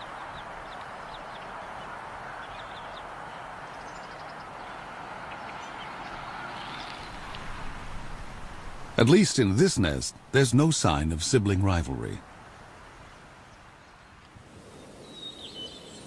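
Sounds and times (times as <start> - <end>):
rushing outdoor ambience: 0.0 - 16.0.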